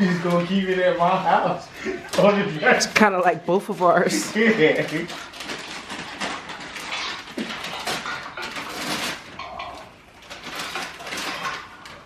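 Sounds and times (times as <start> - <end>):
wrapping paper crinkling and tearing: 0.0 - 12.0.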